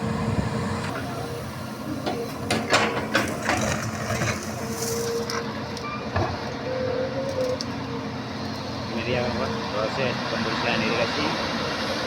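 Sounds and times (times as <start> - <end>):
excavator diesel engine whining: 0.0 - 12.0.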